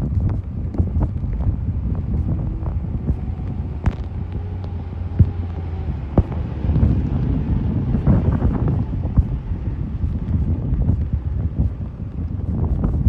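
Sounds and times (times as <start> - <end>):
truck engine rumbling: 0.0 - 13.0
wind buffeting microphone: 0.0 - 13.0.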